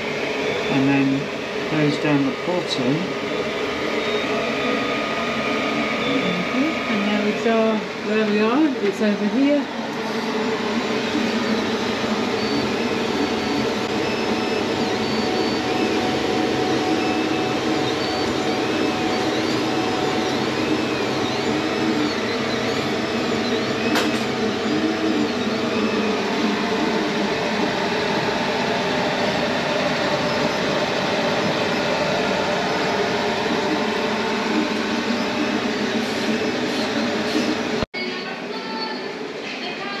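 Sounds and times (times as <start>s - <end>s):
stepper motors whining: 0.0s - 37.8s
whir of fans: 0.0s - 40.0s.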